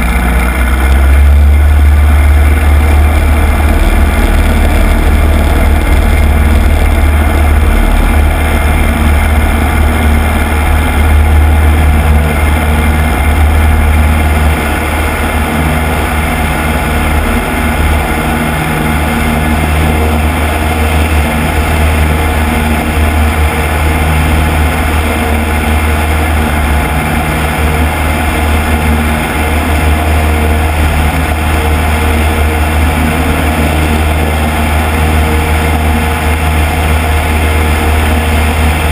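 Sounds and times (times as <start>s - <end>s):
small plane engine and propeller: 0.0s - 38.9s.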